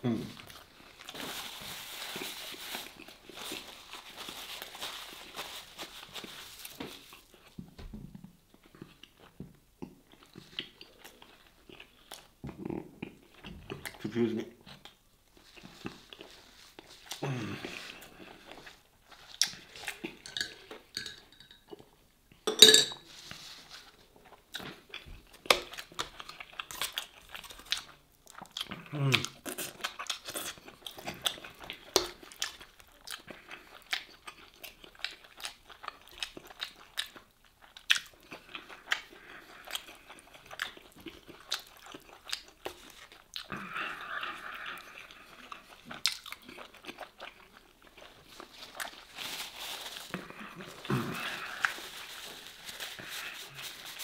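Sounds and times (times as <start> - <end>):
chewing and crunching: 8.5 - 22.0, 23.3 - 54.0.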